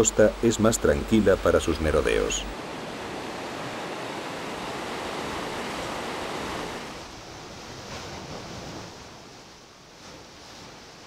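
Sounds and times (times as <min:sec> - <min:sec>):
sea surf breaking: 0:00.0 - 0:09.3.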